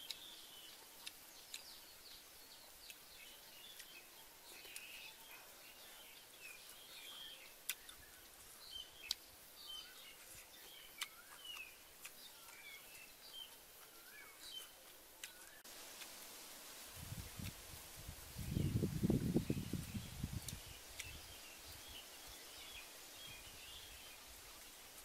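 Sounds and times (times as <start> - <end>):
small birds chirping: 0.0 - 16.2, 16.9 - 25.0
faint outdoor background noise: 0.0 - 25.0.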